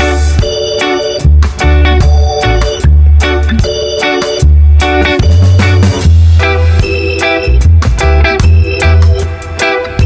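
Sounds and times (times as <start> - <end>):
reggae music with strong bass: 0.0 - 10.0.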